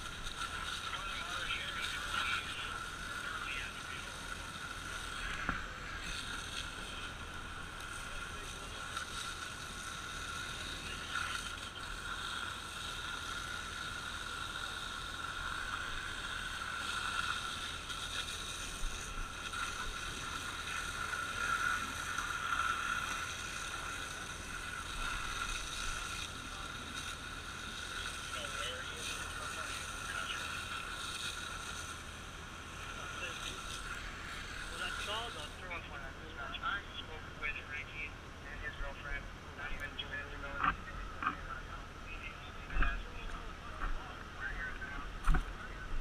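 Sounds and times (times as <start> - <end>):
pump engine drone with whine: 0.0 - 46.0.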